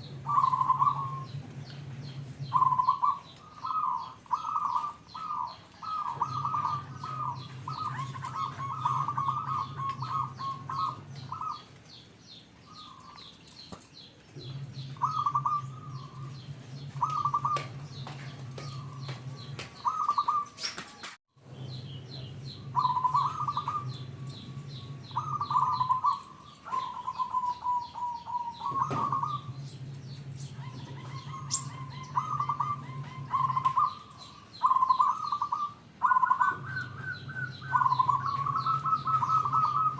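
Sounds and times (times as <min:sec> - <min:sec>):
dove cooing: 0:00.0 - 0:11.8, 0:14.4 - 0:20.8, 0:21.9 - 0:39.9
small birds chirping: 0:00.0 - 0:39.9.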